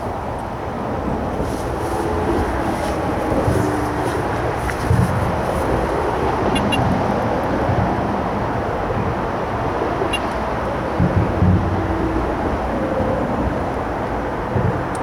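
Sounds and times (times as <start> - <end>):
road traffic drone: 0.0 - 15.0.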